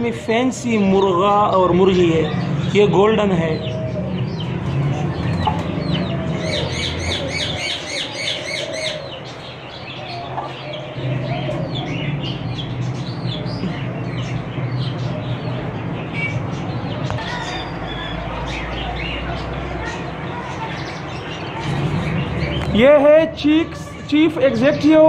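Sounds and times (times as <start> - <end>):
birds chirping and tweeting: 0.0 - 25.0.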